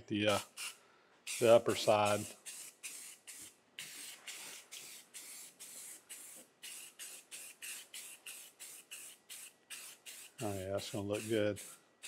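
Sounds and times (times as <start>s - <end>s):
spray paint can hissing: 0.3s - 11.8s.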